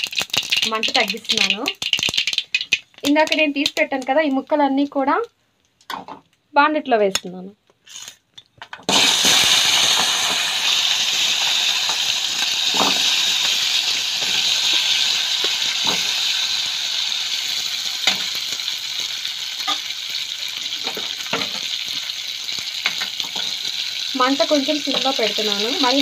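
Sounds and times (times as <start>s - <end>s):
food sizzling in hot oil: 0.0s - 5.1s, 8.8s - 26.0s.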